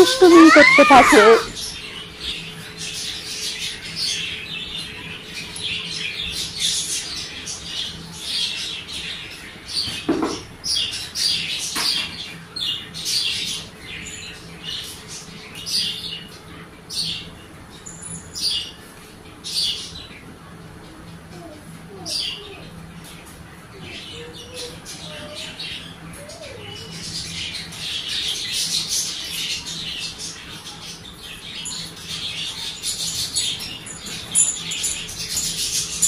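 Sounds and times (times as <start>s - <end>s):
birds chirping and squawking: 0.0s - 10.1s, 10.7s - 36.0s.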